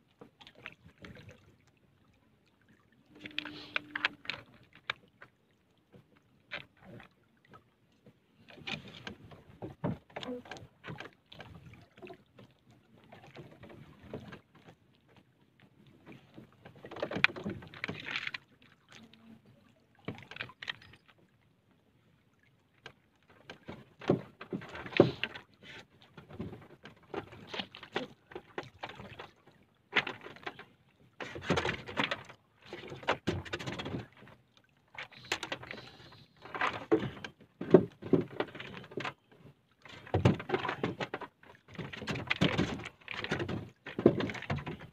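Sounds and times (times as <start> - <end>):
water splashes: 0.0 - 21.4, 22.2 - 44.9.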